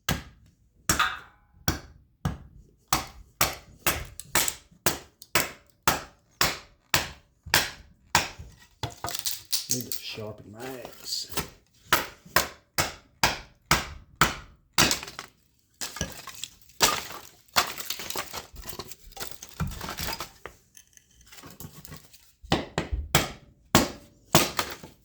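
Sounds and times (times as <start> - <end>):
axe chopping wood: 0.0 - 9.3, 10.8 - 20.4, 21.3 - 25.0
split wood clattering: 3.0 - 25.0.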